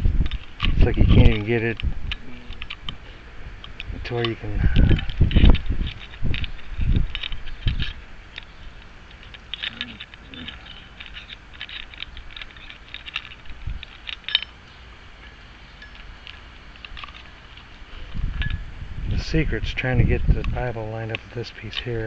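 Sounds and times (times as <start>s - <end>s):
metal clicks of lock parts and keys: 0.2s - 3.0s, 3.6s - 18.7s.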